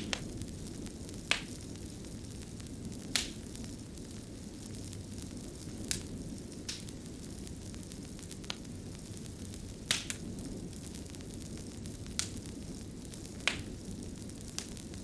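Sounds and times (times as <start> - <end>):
fire crackling: 0.0 - 15.0
sharp pops of burning wood: 0.0 - 15.0.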